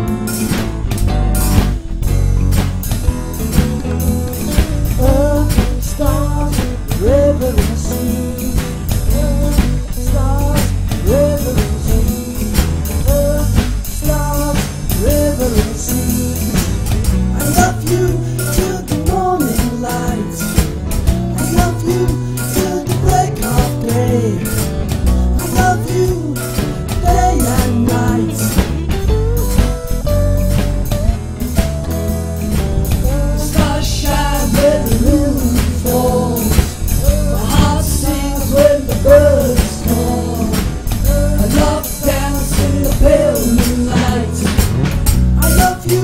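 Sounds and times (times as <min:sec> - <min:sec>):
rock band music: 0:00.0 - 0:46.0.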